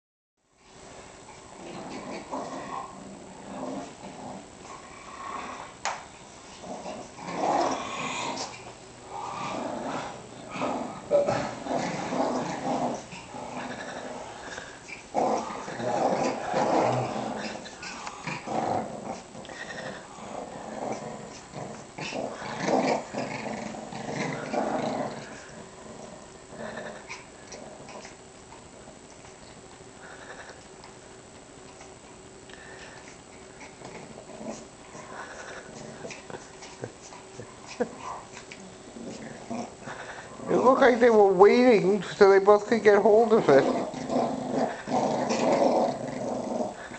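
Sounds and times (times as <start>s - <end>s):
small dogs play-growling: 0.7s - 46.9s.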